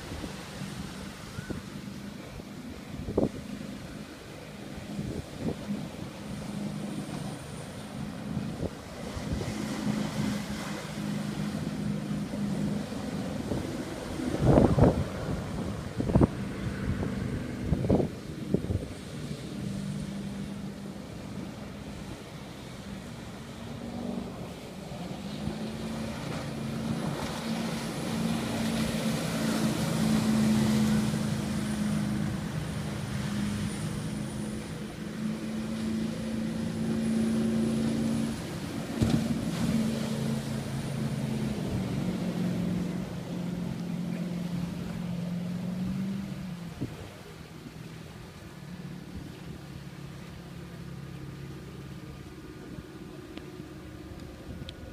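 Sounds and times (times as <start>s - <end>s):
boat engine passing by: 0.0s - 54.9s.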